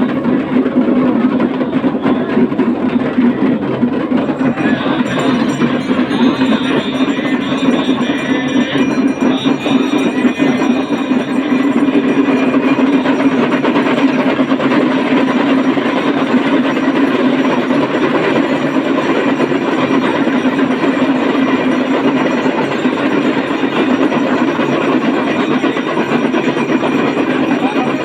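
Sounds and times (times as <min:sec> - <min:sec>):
booming drum tone: 0:00.0 - 0:28.0
hand drums rattling fast: 0:00.0 - 0:28.0.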